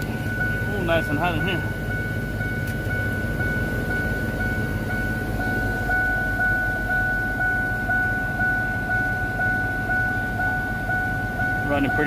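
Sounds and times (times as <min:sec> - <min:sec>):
high-pitched whine: 0:00.0 - 0:12.0
truck engine idling: 0:00.0 - 0:12.0.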